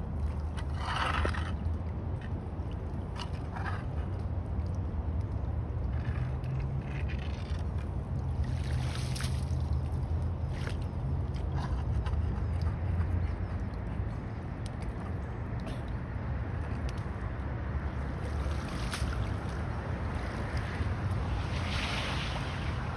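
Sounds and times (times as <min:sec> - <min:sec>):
floodwater sloshing and splashing: 0:00.0 - 0:22.9.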